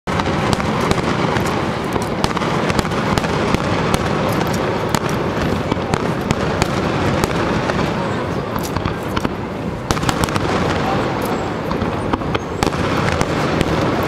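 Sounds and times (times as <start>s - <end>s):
fireworks bursting with crackles: 0.1s - 14.0s.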